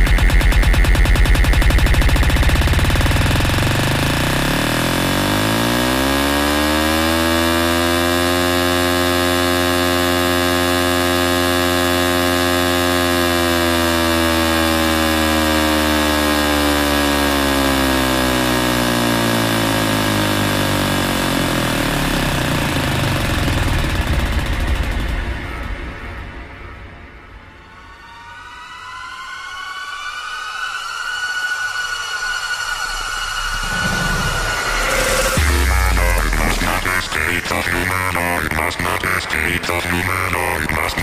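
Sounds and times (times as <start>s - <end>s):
distorted synthesizer drone: 0.0s - 41.0s
noisy build: 0.0s - 41.0s.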